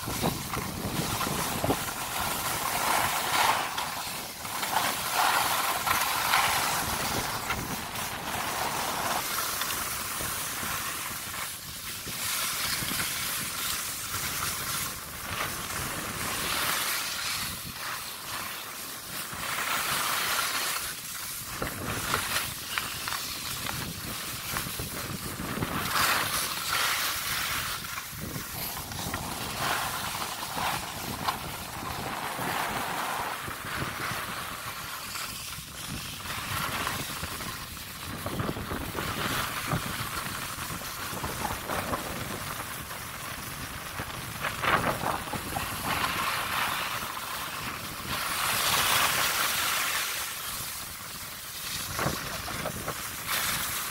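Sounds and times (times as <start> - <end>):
wind on microphone: 0.0 - 18.4, 21.3 - 49.7, 50.6 - 53.9
skis scraping over snow: 0.0 - 53.9.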